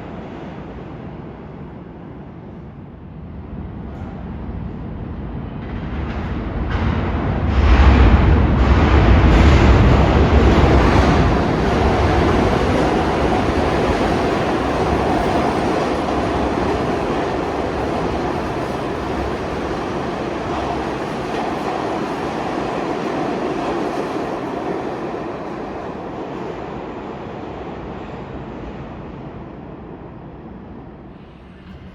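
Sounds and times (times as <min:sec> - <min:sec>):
subway train rumbling past: 0:00.0 - 0:31.9.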